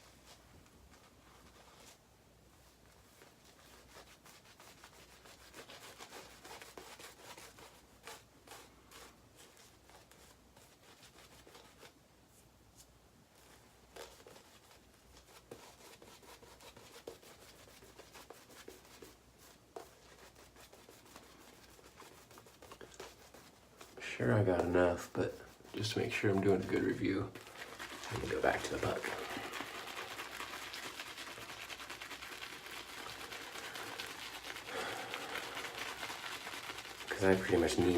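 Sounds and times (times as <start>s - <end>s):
shaving brush rubbing lather: 3.1s - 11.9s, 14.0s - 37.9s.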